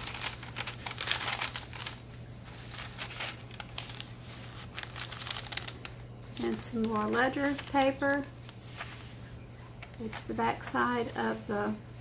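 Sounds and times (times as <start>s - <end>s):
paper rustling and crinkling: 0.0s - 11.8s.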